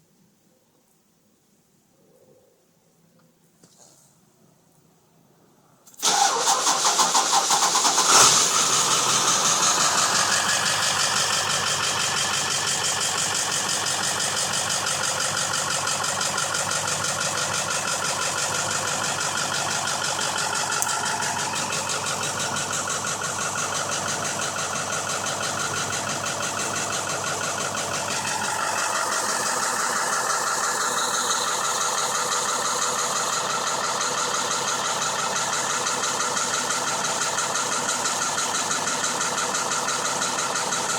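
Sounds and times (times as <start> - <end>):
diesel truck engine starting and idling: 6.0 - 40.9.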